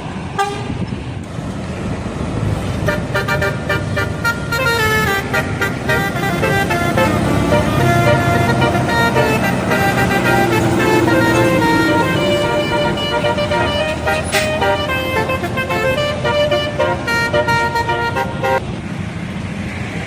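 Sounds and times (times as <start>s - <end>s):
bus engine running: 0.0s - 20.0s
multi-tone bus horn tune: 0.4s - 0.8s, 2.7s - 18.6s.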